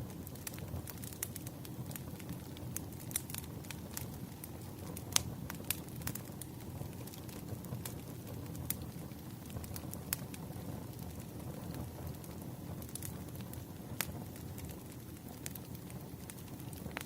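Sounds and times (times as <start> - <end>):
campfire flames rushing: 0.0 - 17.0
fire crackles and pops: 0.0 - 17.0.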